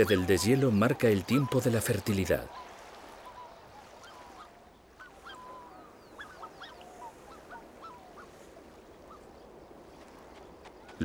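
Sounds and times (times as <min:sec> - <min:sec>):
waterfowl calling: 0:00.0 - 0:11.0.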